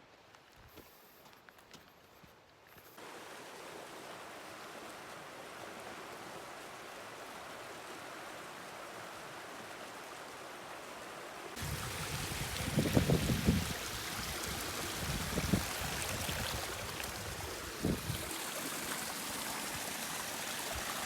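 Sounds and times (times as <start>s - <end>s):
creek water running: 3.0s - 21.0s.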